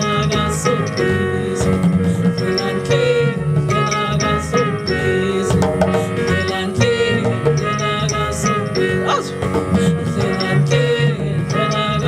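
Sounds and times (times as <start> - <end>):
live jazz band: 0.0 - 11.8
busy low bass line: 0.0 - 12.0.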